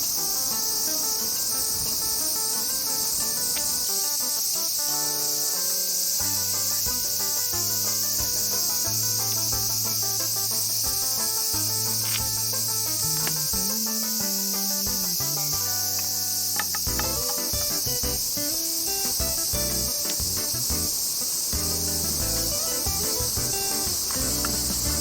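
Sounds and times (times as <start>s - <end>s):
insects chirring: 0.0s - 25.0s
slow melodic background music: 0.0s - 25.0s.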